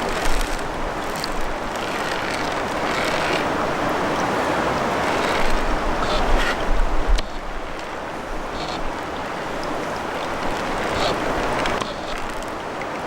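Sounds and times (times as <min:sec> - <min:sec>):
wind buffeting microphone: 0:00.0 - 0:12.4
stream water rushing: 0:00.0 - 0:13.0.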